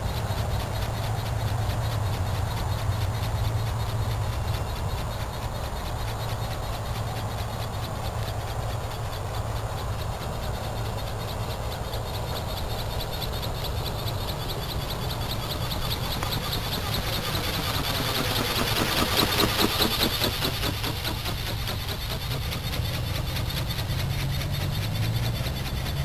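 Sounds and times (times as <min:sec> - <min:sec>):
electric motor pulsing: 0:00.0 - 0:26.0.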